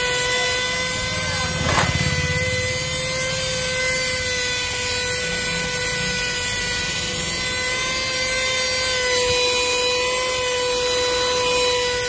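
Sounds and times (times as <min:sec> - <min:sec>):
handheld vacuum cleaner running: 0:00.0 - 0:12.0.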